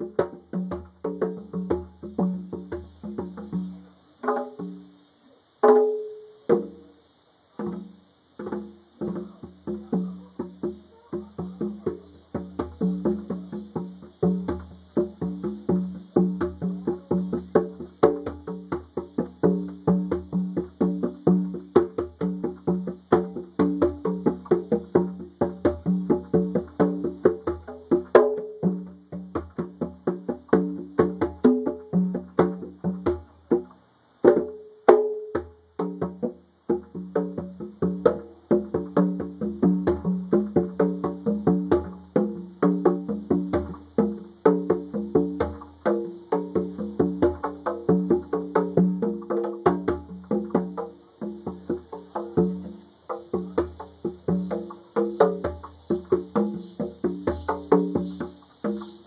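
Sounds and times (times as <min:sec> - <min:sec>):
cicadas droning: 0:00.0 - 0:59.0
conga drums played by hand: 0:00.0 - 0:59.0.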